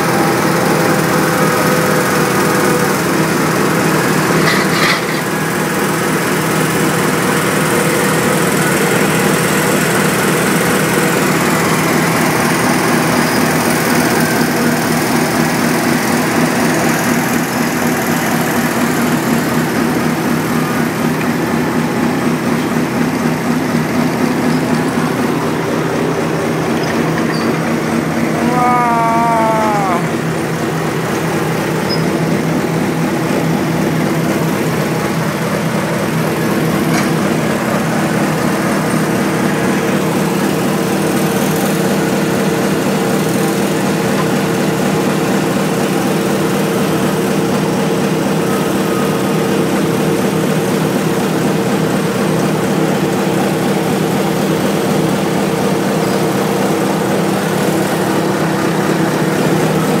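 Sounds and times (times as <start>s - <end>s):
heavy machine engine droning: 0.0s - 60.0s.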